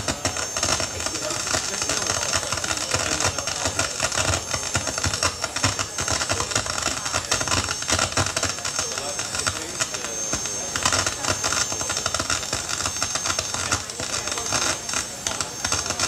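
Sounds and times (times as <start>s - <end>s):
dense crackling noise: 0.0s - 16.0s.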